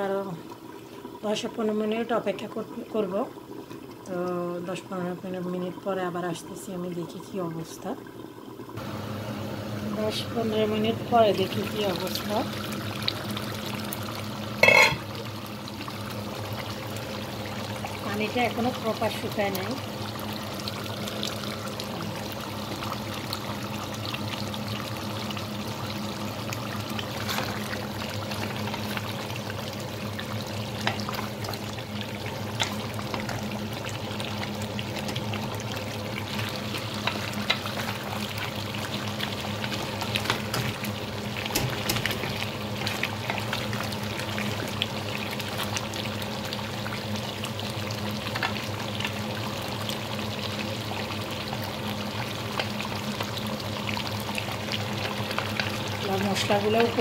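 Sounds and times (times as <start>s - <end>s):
curry bubbling in pot: 0.0s - 57.0s.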